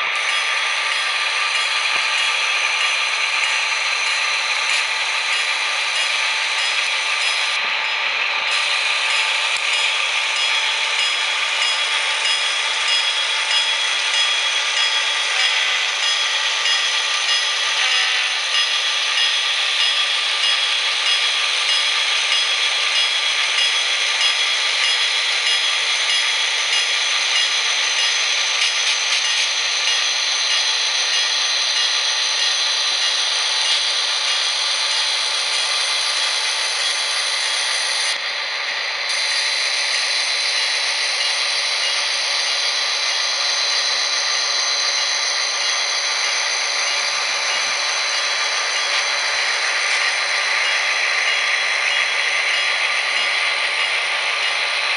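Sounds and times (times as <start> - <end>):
model train motors whirring: 0.0 - 54.9.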